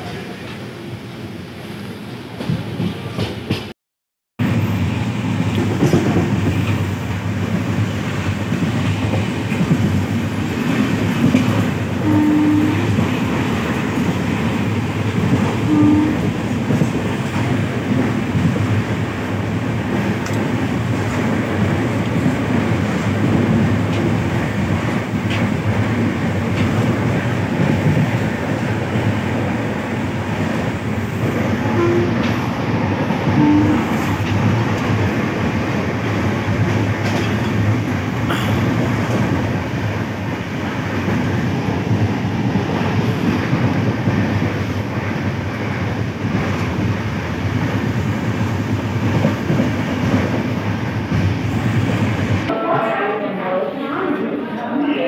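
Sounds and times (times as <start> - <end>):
train wheels on track: 0.0 - 3.7, 4.4 - 52.9.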